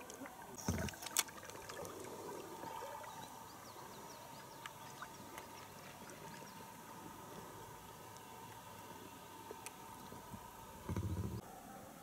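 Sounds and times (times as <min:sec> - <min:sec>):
water lapping around a boat: 0:00.0 - 0:11.4.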